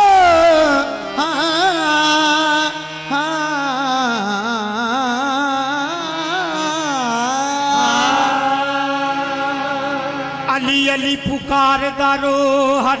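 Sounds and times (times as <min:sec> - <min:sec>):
harmonium notes: 0:00.0 - 0:13.0
man singing melismatic line: 0:00.0 - 0:13.0.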